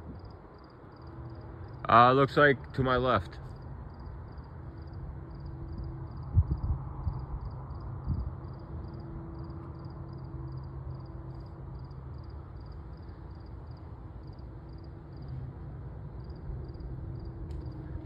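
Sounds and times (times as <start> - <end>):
insect chirping: 0.0 - 2.2, 3.4 - 18.0
distant diesel locomotive rumble: 0.0 - 18.0.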